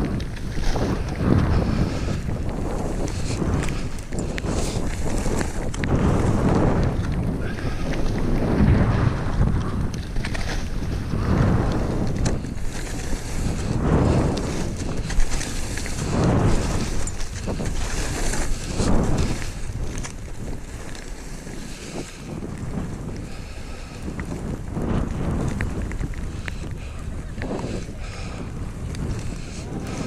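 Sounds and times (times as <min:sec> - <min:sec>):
skis sliding over snow: 0:00.0 - 0:30.0
wind buffeting microphone: 0:00.0 - 0:30.0.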